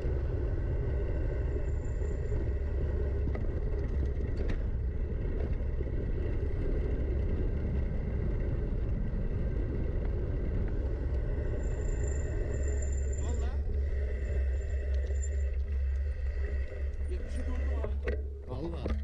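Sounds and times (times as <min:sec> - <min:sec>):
wind buffeting: 0:00.0 - 0:18.8
rough-trail vibration rumble: 0:00.0 - 0:19.0.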